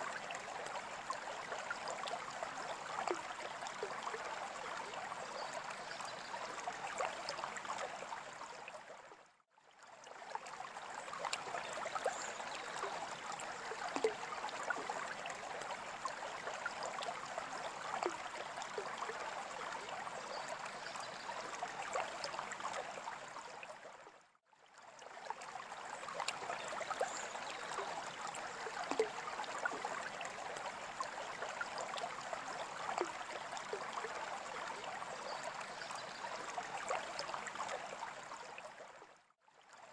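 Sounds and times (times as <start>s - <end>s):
small water splashes: 0.0s - 9.2s, 9.9s - 24.1s, 24.7s - 39.9s
water trickling and bubbling: 0.0s - 39.9s.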